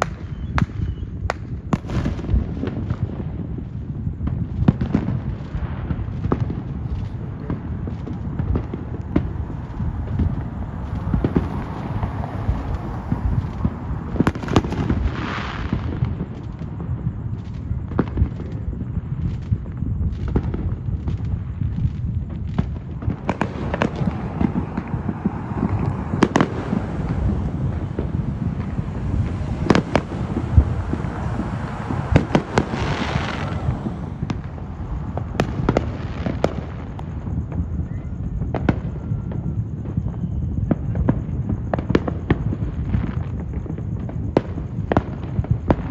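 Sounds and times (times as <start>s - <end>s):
fireworks hissing crackle: 0.0s - 45.9s
fireworks popping and banging: 0.0s - 45.9s
steady low rumble: 1.4s - 41.8s.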